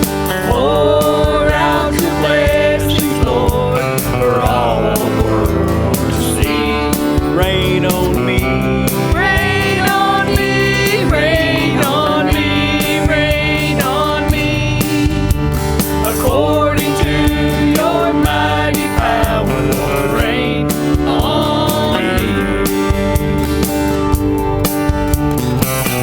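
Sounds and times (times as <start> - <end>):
instrumental backing with beat: 0.0 - 26.0
solo voice singing: 0.3 - 15.3, 16.0 - 23.8.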